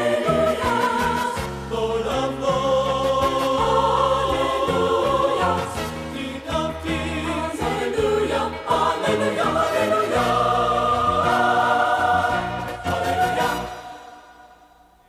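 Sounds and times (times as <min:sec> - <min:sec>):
choir singing gospel song: 0:00.0 - 0:14.9.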